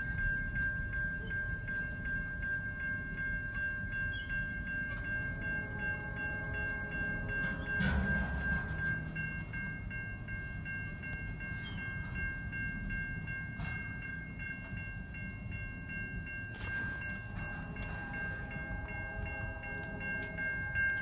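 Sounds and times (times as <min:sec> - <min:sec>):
freight train rumbling: 0:00.0 - 0:21.0
steady high ringing tone: 0:00.0 - 0:21.0
train clanks: 0:00.0 - 0:21.0.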